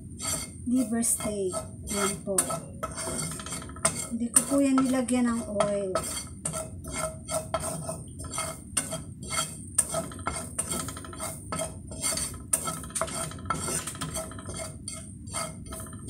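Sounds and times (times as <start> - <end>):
wooden spatula scraping a pan: 0.0 - 16.0.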